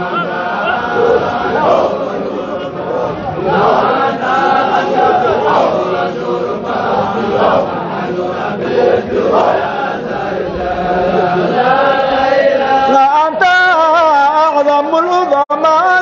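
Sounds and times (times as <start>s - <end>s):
group chanting in unison: 0.0s - 14.6s.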